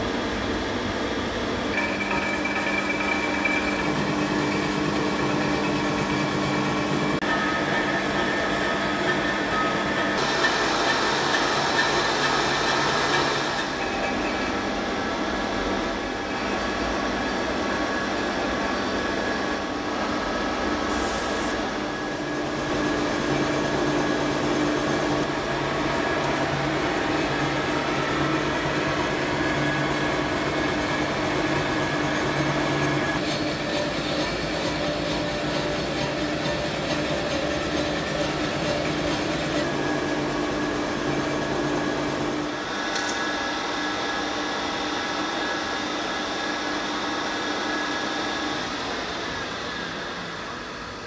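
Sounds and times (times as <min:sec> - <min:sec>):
milling machine cutting steel: 0:01.7 - 0:43.2.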